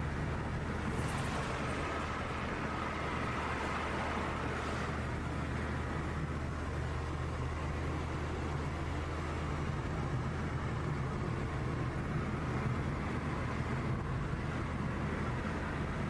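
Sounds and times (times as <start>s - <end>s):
car engine drone: 0.0s - 16.0s
tyres on road: 0.0s - 16.0s.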